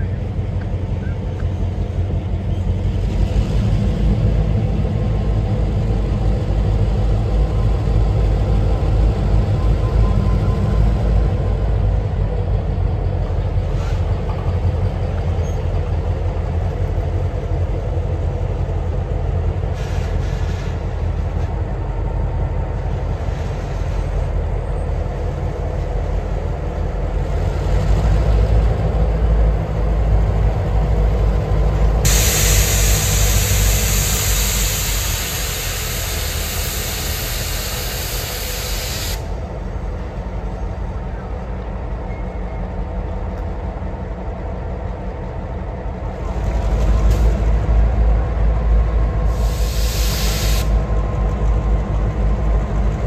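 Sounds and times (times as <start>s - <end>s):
diesel locomotive engines rumbling: 0.0s - 53.0s.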